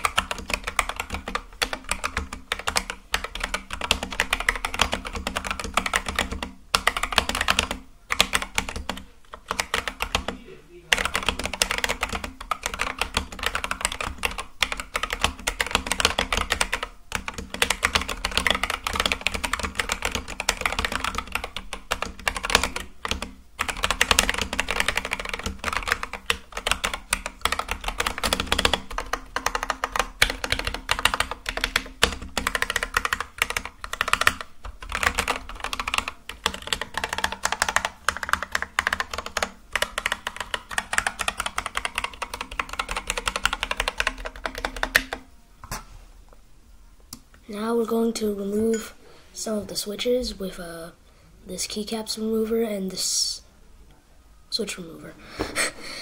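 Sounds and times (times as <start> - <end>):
mechanical keyboard typing: 0.0 - 45.2.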